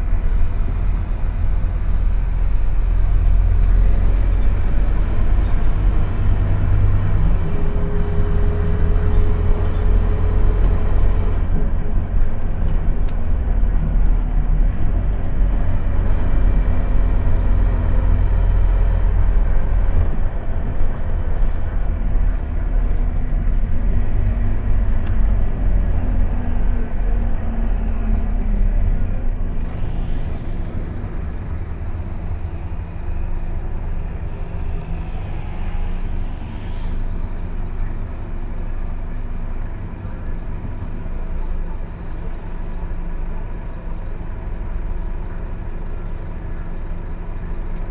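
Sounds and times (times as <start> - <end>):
bus diesel engine rumble: 0.0 - 47.9
road noise inside bus: 0.0 - 47.9.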